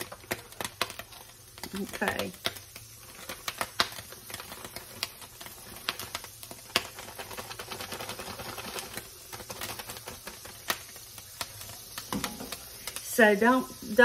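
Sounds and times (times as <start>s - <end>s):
butter crackling in hot oil: 0.0s - 14.0s.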